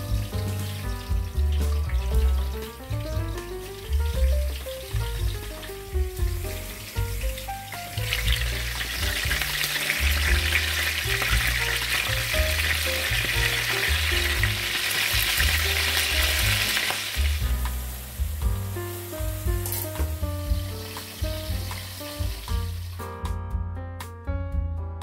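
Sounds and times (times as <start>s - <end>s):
steady sizzling hiss: 0.0s - 23.2s
background music with bass: 0.0s - 25.0s.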